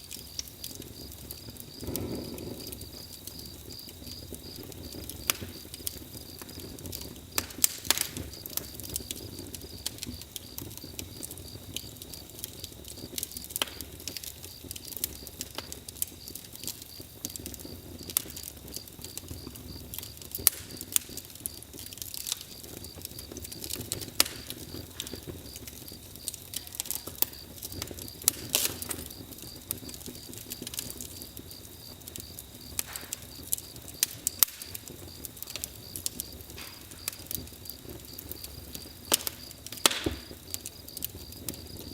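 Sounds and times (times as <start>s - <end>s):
campfire crackling and popping: 0.0s - 41.9s
crickets chirring: 0.0s - 41.9s.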